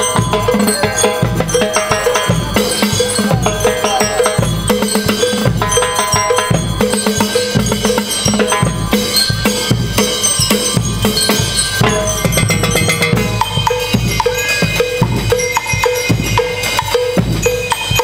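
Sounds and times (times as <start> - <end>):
bell lyre melody: 0.0 - 18.0
drums keeping a beat: 0.0 - 18.0.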